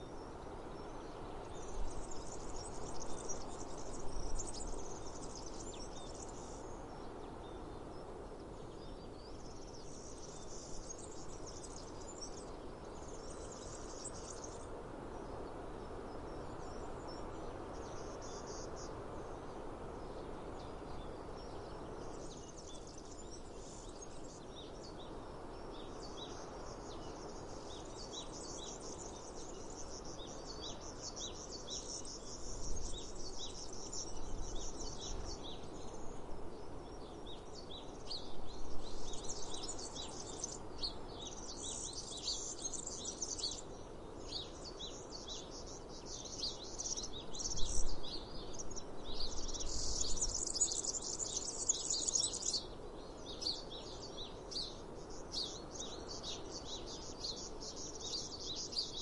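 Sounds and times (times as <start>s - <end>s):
steady outdoor hiss: 0.0s - 59.0s.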